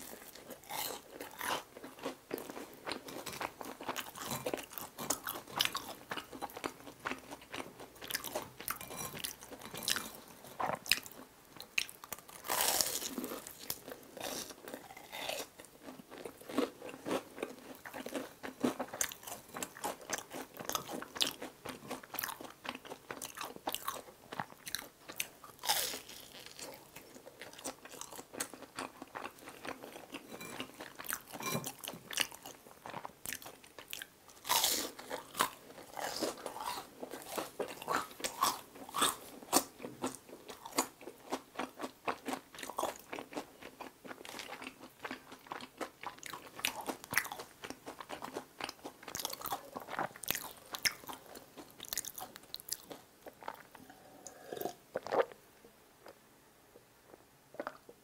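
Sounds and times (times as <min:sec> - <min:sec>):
chewing crispy fried food: 0:00.0 - 0:55.4.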